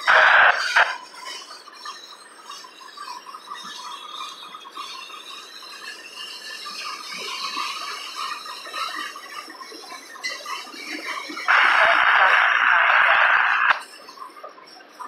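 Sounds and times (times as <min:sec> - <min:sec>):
train wheels squealing: 0:00.0 - 0:12.8, 0:13.7 - 0:15.0
train wheels rattling on rails: 0:00.0 - 0:15.0.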